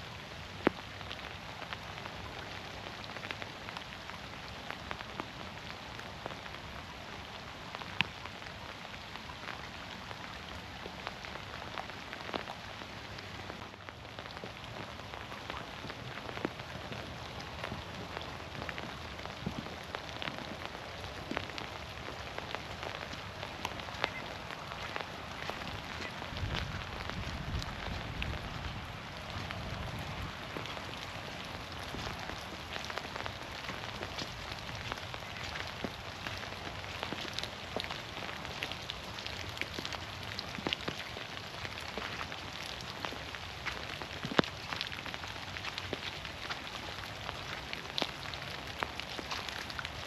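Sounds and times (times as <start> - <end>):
rain falling in forest: 0.0 - 50.0
raindrops ticking: 0.0 - 50.0.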